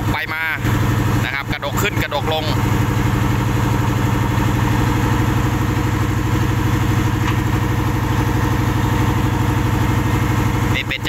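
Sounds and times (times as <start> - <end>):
large engine running steadily: 0.0 - 11.0.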